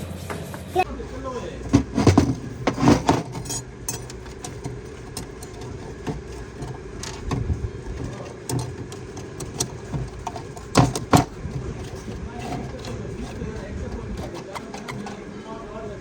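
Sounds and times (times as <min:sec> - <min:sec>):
engine-like hum: 0:00.0 - 0:16.0.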